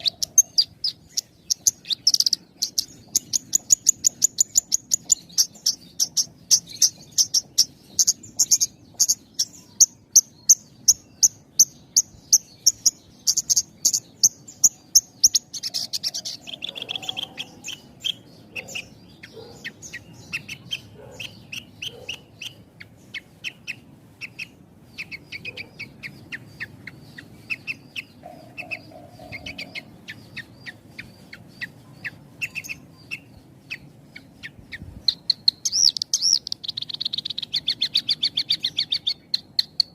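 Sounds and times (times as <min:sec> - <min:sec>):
lark singing: 0:00.0 - 0:22.7, 0:23.4 - 0:39.9.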